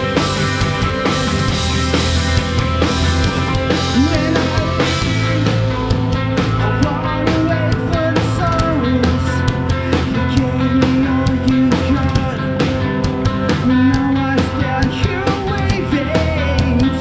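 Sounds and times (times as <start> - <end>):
bending lead guitar line: 0.0 - 17.0
rock band playing live: 0.0 - 17.0.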